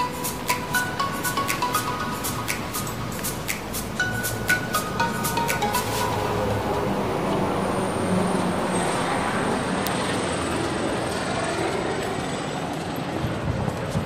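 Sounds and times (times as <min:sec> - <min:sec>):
traffic hum: 0:00.0 - 0:13.9.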